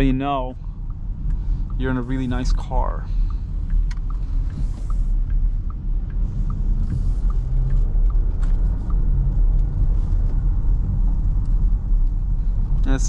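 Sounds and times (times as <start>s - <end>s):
road and drivetrain rumble: 0.0s - 13.0s
light ticks: 0.5s - 13.0s.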